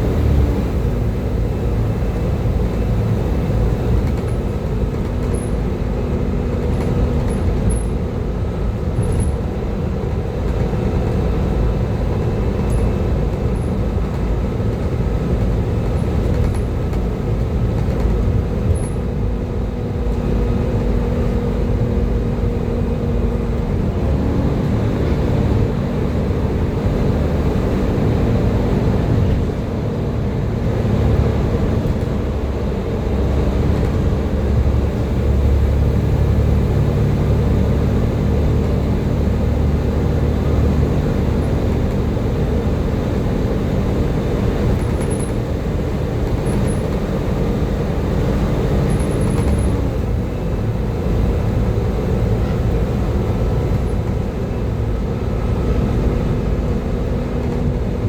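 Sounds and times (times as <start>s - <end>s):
bus engine whining: 0.0s - 58.0s.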